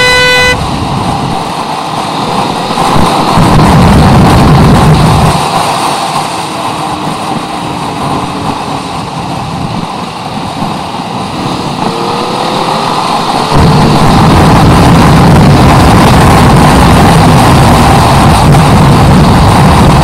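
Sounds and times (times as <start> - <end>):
motorcycle engine: 0.0 - 20.0
wind rushing on microphone: 0.0 - 20.0.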